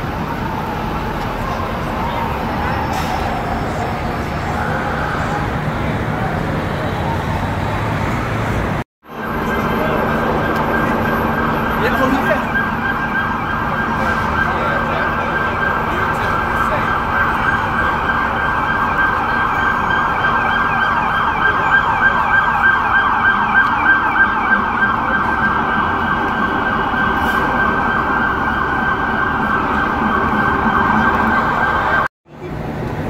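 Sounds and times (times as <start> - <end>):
sirens yelping: 0.0 - 32.1
street traffic: 0.0 - 33.0.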